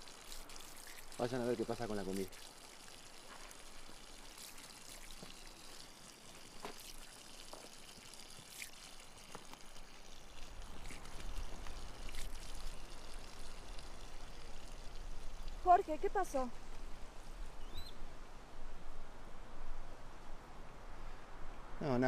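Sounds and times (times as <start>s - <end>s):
rushing hiss of outdoor ambience: 0.0s - 22.0s.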